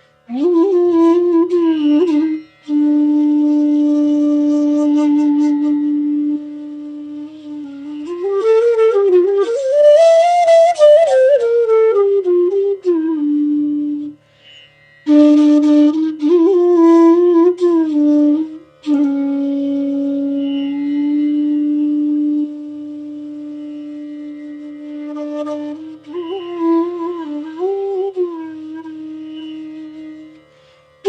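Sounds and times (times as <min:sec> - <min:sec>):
bamboo flute melody: 0:00.2 - 0:31.0.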